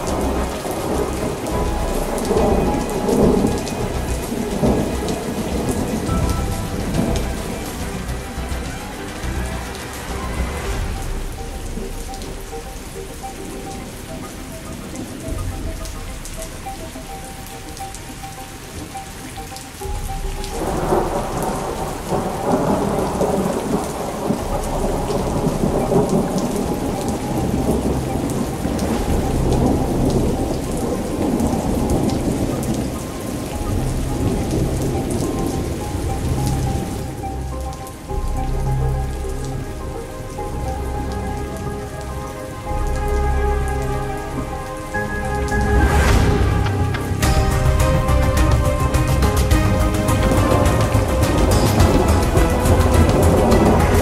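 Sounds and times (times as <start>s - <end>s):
rolling thunder: 0.0s - 18.8s, 19.8s - 54.0s
steady rain: 0.0s - 54.0s.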